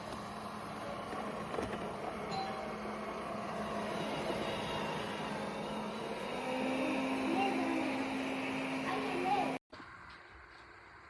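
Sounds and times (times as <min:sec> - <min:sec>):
robot vacuum cleaner running: 0:00.0 - 0:09.6.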